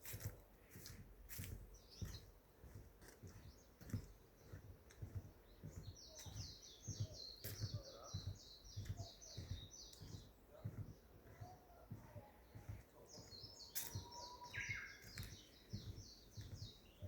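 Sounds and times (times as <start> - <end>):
soft low thumps: 0.8 - 17.0.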